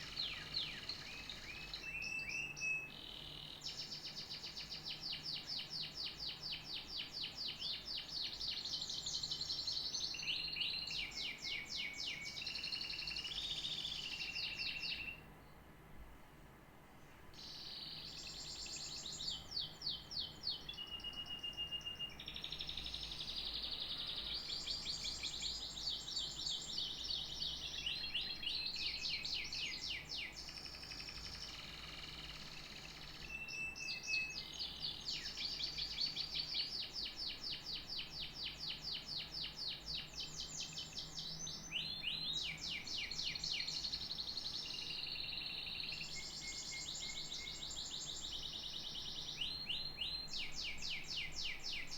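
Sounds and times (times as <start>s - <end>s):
canary singing trills: 0.0s - 15.3s, 17.4s - 51.9s.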